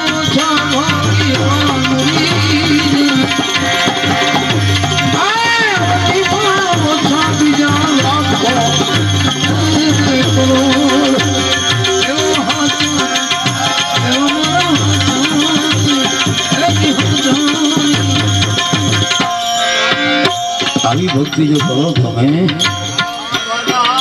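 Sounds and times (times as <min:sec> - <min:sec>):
held harmonium notes: 0:00.0 - 0:24.0
tabla playing fast rhythm: 0:00.0 - 0:24.0.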